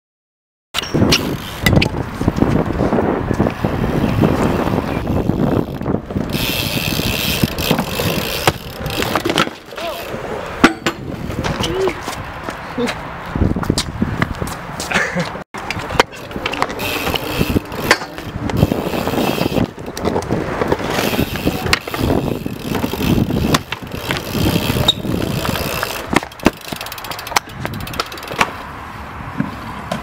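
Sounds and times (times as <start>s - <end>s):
bikes clanking and thudding: 0.8s - 28.7s, 29.3s - 30.0s
bike tyres rolling on concrete: 0.8s - 30.0s.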